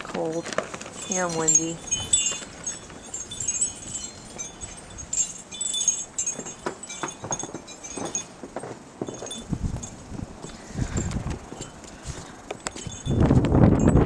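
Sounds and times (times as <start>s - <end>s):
light metallic tinkling: 0.0s - 14.0s.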